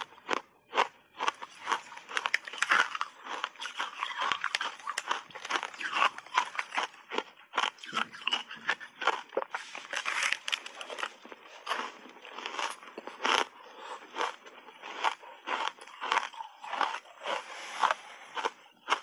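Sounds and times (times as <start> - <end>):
crunching and chewing ice: 0.0 - 19.0.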